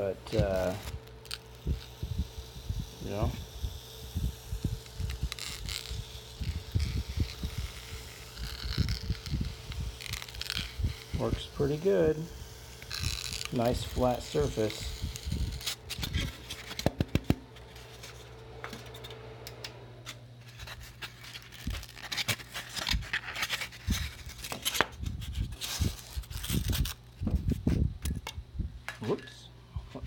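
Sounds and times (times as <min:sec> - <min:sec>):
workpiece scraping and rustling: 0:00.0 - 0:02.2, 0:04.1 - 0:28.3
steady low hum: 0:00.0 - 0:30.0.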